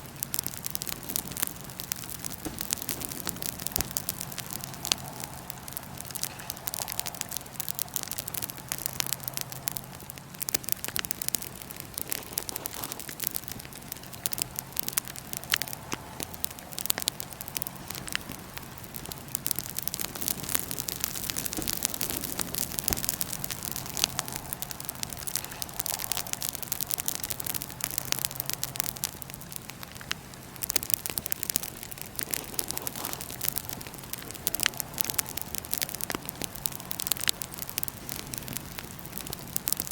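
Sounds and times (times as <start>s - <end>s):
steady hiss: 0.0s - 39.9s
wood fire crackling and popping: 0.0s - 39.9s.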